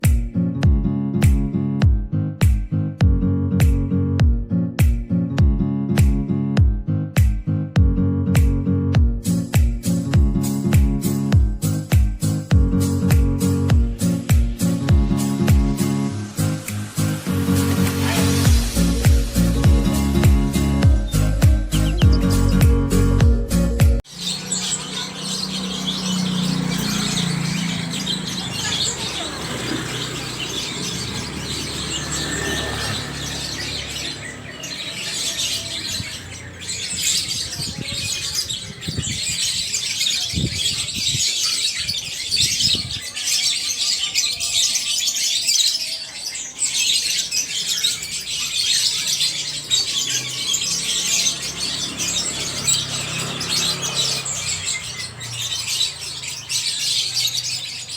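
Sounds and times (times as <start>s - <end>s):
caged birds chirping and squawking: 9.2s - 57.9s.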